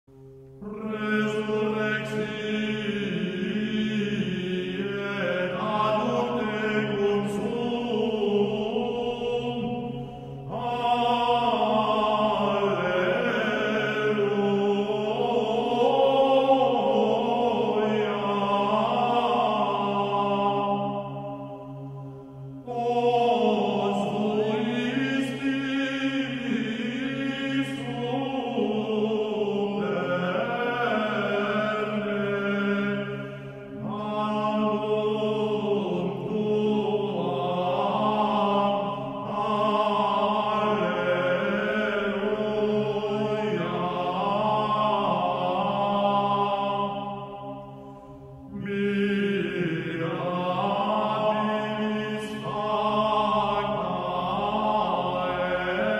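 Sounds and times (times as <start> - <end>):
slow chanted singing: 0.1 - 55.9.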